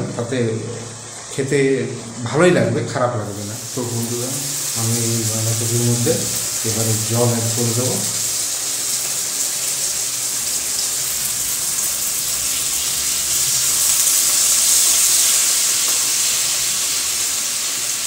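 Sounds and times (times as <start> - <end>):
pan hissing and sizzling: 0.9 - 18.0.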